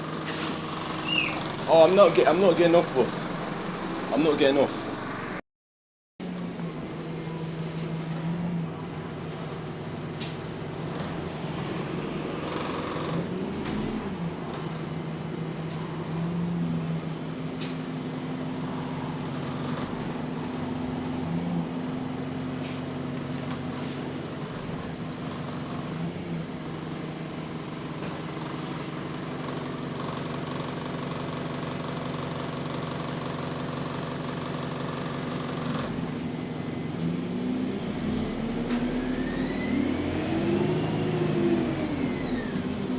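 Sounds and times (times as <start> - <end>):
bus diesel engine droning: 0.0 - 5.4, 6.4 - 42.9.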